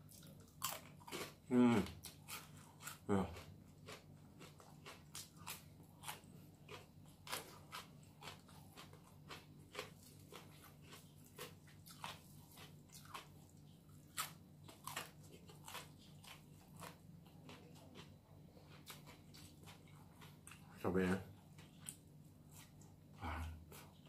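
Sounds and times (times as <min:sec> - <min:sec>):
crunchy chewing: 0:00.0 - 0:24.0
faint low hum: 0:00.0 - 0:24.0.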